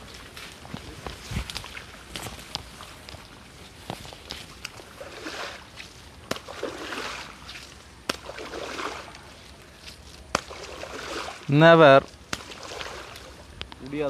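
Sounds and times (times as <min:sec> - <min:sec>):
water sloshing: 0:00.0 - 0:13.7.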